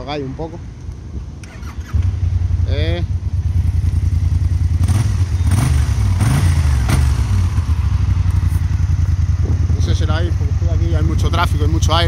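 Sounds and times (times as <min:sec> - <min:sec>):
scooter engine idling: 0:01.6 - 0:12.0.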